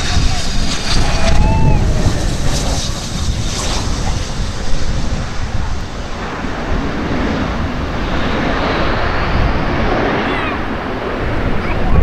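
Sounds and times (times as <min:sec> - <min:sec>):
jet engines rushing: 0:00.0 - 0:12.0
wind buffeting microphone: 0:00.0 - 0:12.0.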